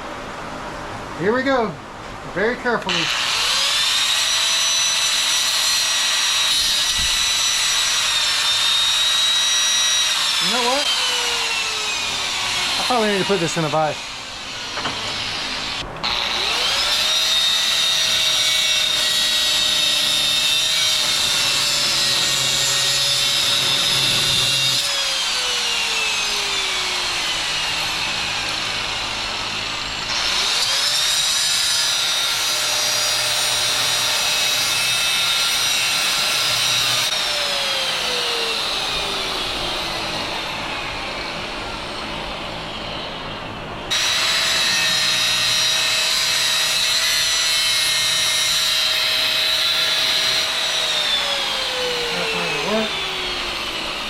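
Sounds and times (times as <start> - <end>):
angle grinder cutting metal: 2.8 - 43.2, 43.9 - 54.0.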